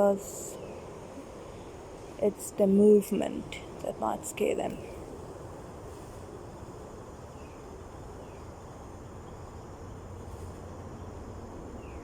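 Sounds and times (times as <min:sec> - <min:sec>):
distant highway traffic rumble: 0:00.0 - 0:12.0
faint insect drone: 0:00.0 - 0:12.0.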